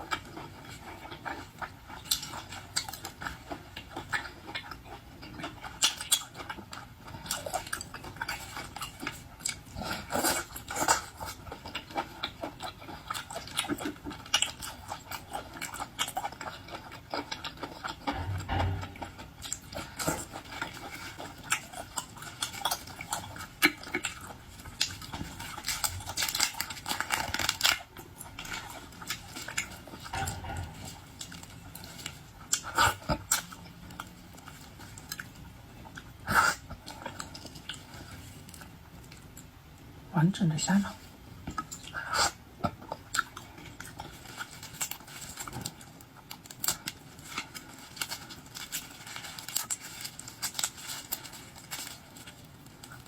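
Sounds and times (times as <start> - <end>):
chewing: 0.0 - 39.9, 41.0 - 53.0.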